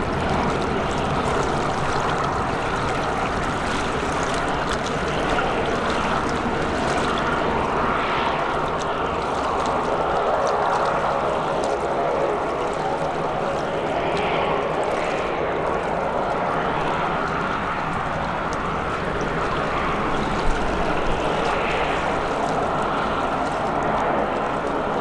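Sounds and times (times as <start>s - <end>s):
turboprop engine and propeller: 0.0s - 25.0s
water rushing and splashing: 0.0s - 25.0s.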